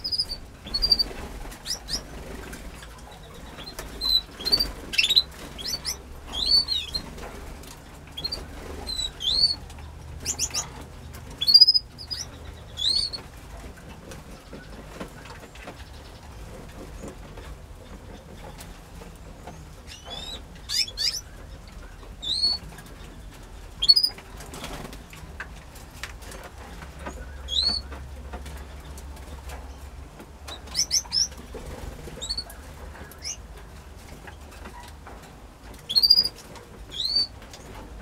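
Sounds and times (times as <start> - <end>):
canary chirping: 0.0 - 16.4, 19.4 - 24.9, 27.0 - 33.6, 35.8 - 37.8.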